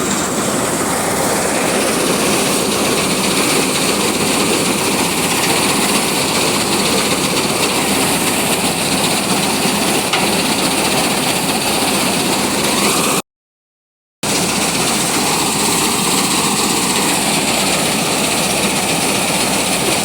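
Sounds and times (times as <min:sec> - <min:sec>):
combine harvester running: 0:00.0 - 0:13.2, 0:14.2 - 0:20.0.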